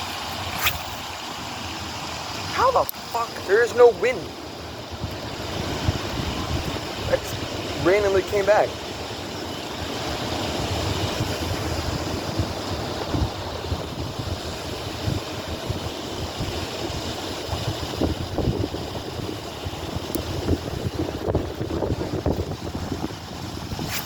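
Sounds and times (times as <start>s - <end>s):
water noise: 0.0s - 24.0s
wind buffeting microphone: 0.0s - 24.0s.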